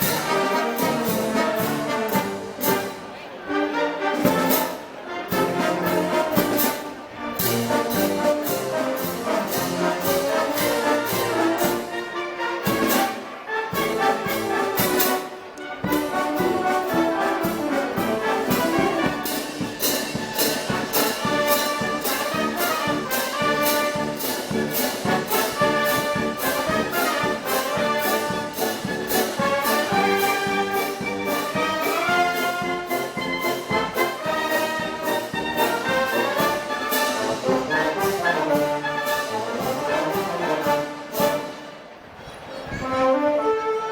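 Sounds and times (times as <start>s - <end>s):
steady drum beat: 0.0s - 2.9s, 5.3s - 12.0s, 13.7s - 41.6s
trumpets and trombones: 0.0s - 43.9s.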